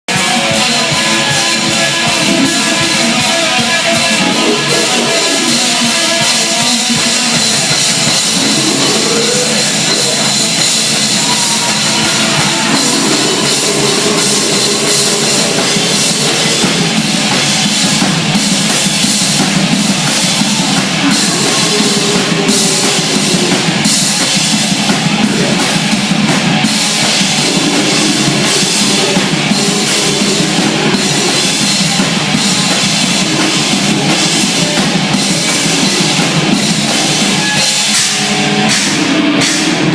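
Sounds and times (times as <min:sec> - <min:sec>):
loud rock band music: 0:00.0 - 0:39.9.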